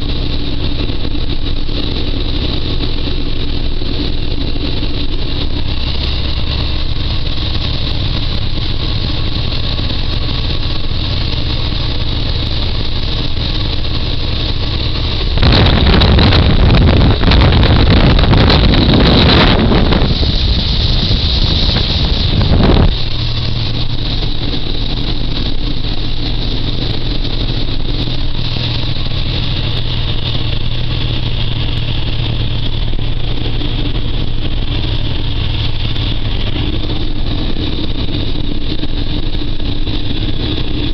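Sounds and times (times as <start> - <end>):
loud wind rush: 0.0 - 40.9
truck diesel engine running: 0.0 - 40.9.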